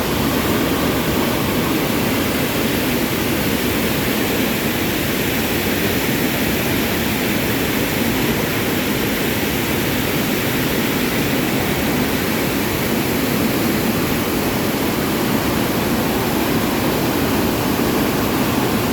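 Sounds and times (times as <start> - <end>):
flooded river rushing: 0.0 - 18.9.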